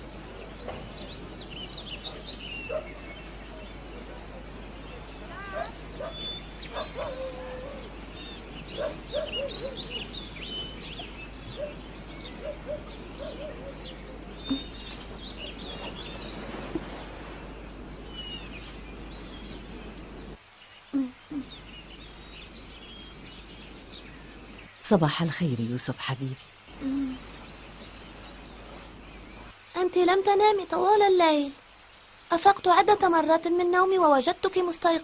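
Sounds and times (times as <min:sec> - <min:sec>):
small birds chirping: 0:00.0 - 0:35.0
steady background hiss: 0:00.0 - 0:35.0.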